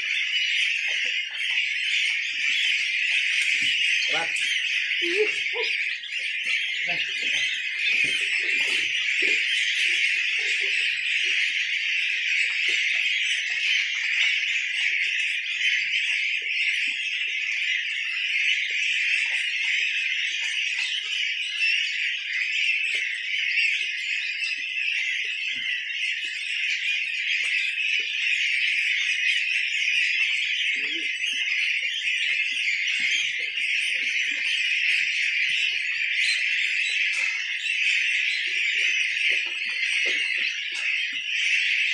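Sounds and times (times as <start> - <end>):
goslings peeping: 0.0 - 41.9.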